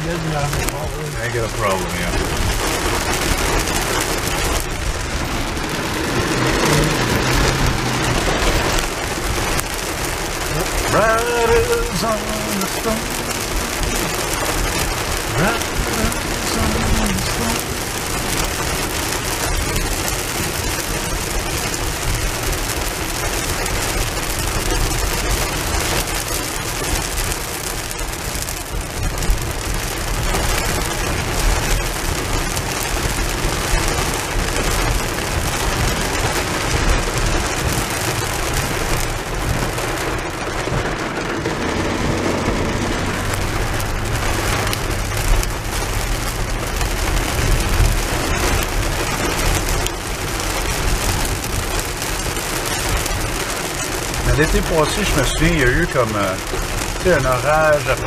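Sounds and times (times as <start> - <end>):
car moving on wet road: 0.0 - 58.0
rain on car roof: 0.0 - 58.0.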